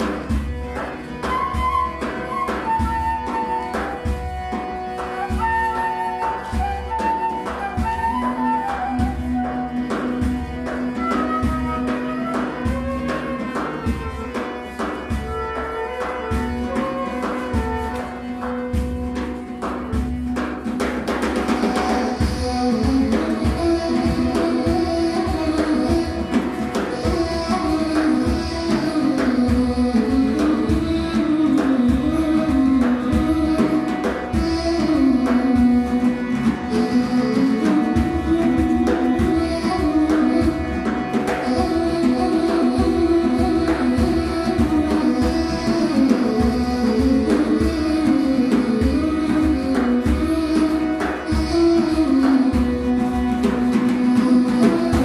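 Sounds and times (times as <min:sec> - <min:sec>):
drums beating steady rhythm: 0:00.0 - 0:55.0.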